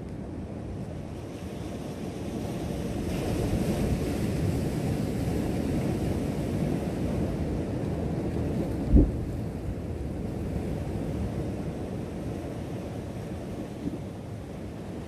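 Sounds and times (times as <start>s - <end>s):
wind rumbling on microphone: 0.0s - 15.0s
surf washing against rocks: 1.1s - 15.0s.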